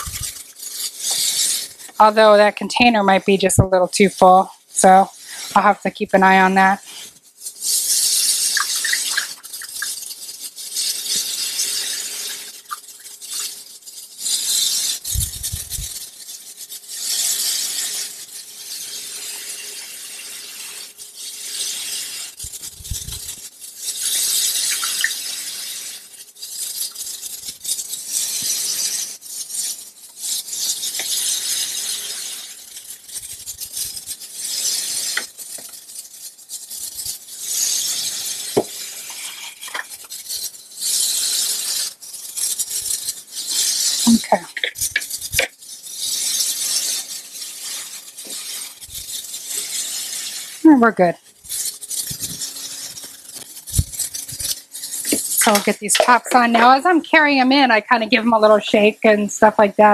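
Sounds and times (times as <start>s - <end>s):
water pouring through funnel: 0.0s - 36.5s, 37.2s - 58.6s.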